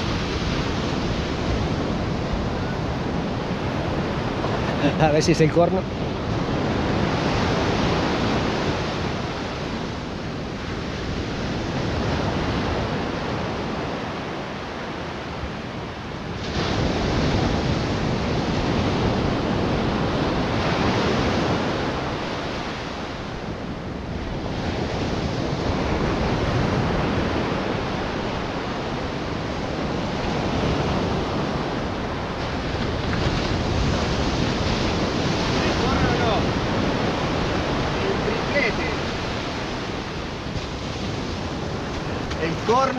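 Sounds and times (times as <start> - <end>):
ocean surf breaking on beach: 0.0 - 42.9.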